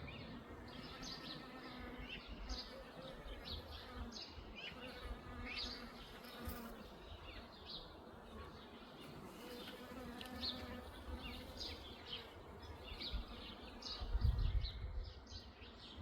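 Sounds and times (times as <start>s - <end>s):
bees buzzing: 0.0s - 14.4s.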